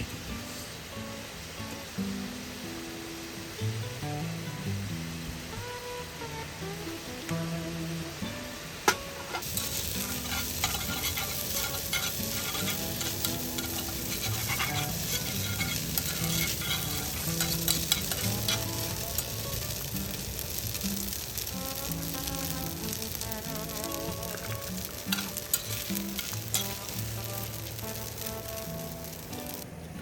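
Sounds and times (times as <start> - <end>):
food sizzling in a pan: 0.1 - 29.7.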